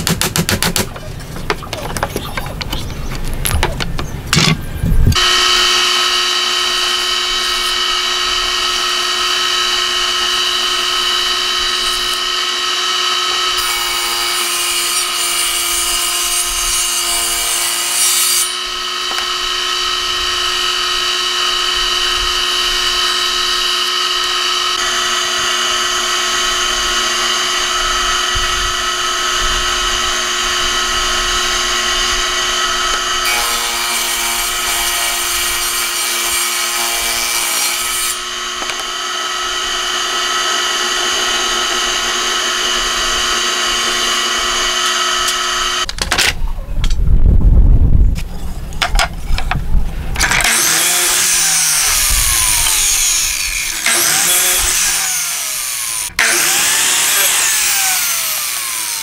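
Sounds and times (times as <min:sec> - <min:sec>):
table saw cutting boards: 0:04.3 - 0:45.9, 0:50.1 - 0:59.0.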